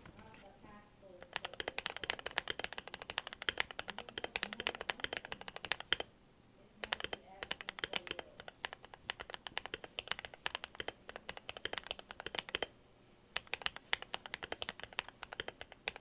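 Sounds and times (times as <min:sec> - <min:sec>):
fast typing on mechanical keyboard: 0:01.2 - 0:06.1, 0:06.8 - 0:12.7, 0:13.4 - 0:16.0.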